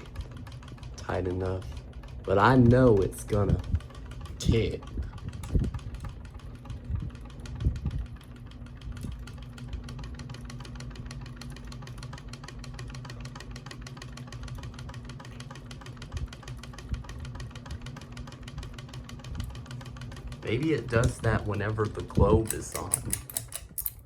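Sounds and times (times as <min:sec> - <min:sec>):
ceiling fan motor humming: 0:00.0 - 0:24.0
fan blades rattling: 0:00.0 - 0:24.0.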